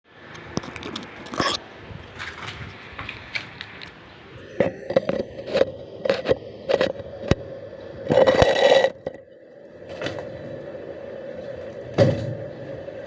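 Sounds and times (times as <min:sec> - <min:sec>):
steady hum: 0:00.1 - 0:13.0.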